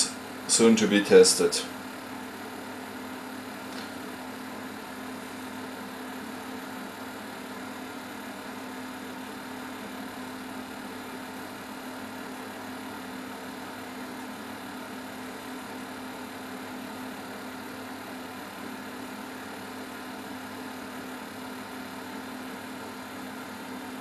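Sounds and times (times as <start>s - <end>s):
induction heater humming: 0.0s - 24.0s.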